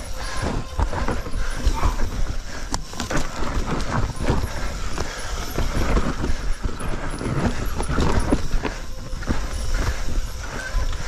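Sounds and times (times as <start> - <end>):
mountain bike rattling over rocks: 0.0 - 11.0
wind rumble on microphone: 0.0 - 11.0.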